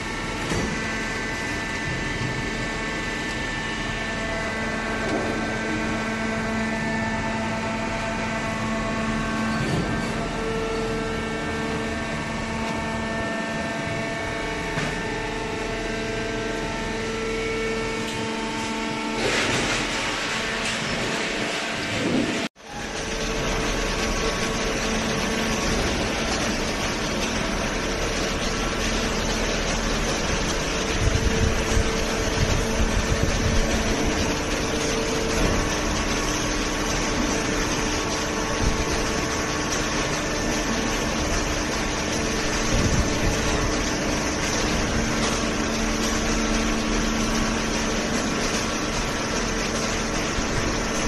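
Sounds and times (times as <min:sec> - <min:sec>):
baling machine running: 0:00.0 - 0:51.0.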